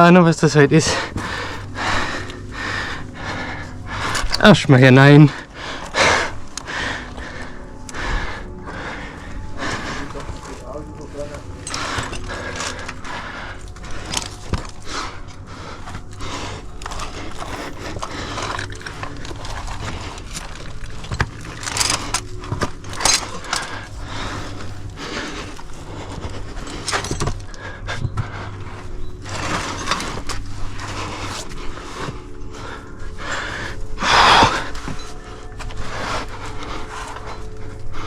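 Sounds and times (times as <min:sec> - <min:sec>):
climbing gear clinking: 0:00.0 - 0:38.0
hard breathing: 0:00.0 - 0:38.0.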